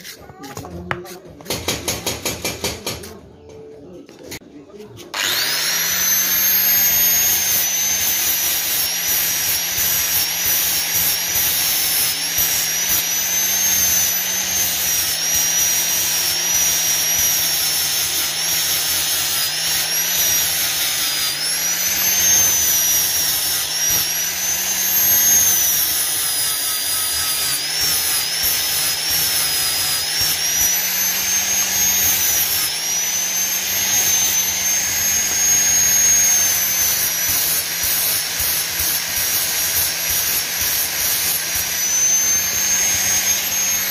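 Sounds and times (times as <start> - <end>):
angle grinder grinding steel: 0.0 - 3.1, 4.2 - 43.9.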